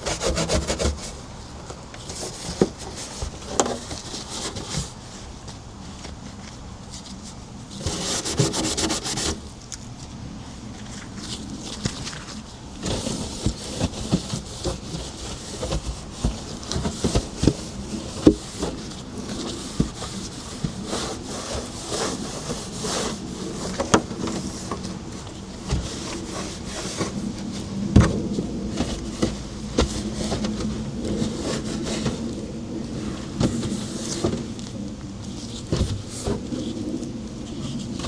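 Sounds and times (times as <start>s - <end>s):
scrubbing on refrigerator surfaces: 0.0s - 1.4s, 7.1s - 9.6s, 10.9s - 38.0s.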